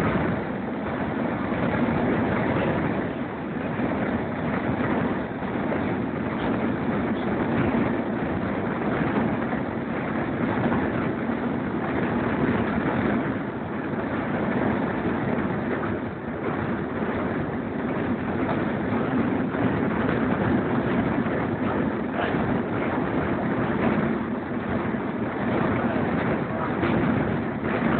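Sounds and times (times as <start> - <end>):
air rushing past train: 0.0 - 27.9
train wheels rolling on rails: 0.0 - 27.9.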